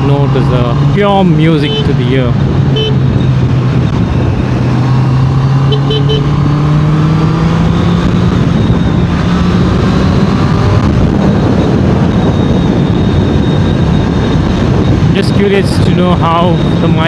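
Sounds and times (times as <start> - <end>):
heavy wind rush: 0.0 - 17.0.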